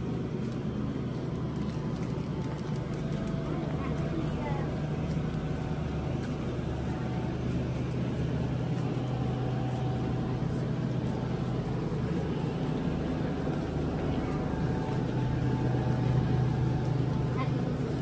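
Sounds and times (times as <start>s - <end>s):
refrigerator hum: 0.0s - 18.0s.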